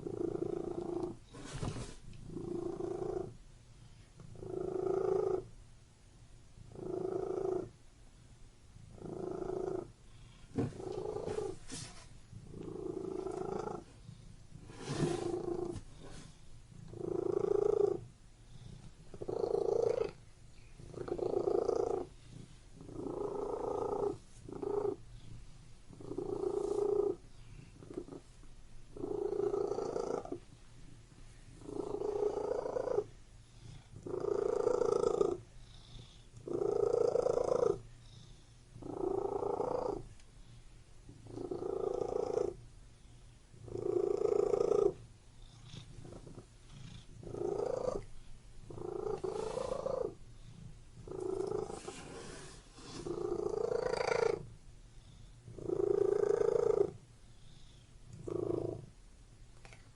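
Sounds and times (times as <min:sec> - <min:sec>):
cat purring: 0:00.0 - 0:05.6, 0:06.5 - 0:07.8, 0:08.7 - 0:59.0.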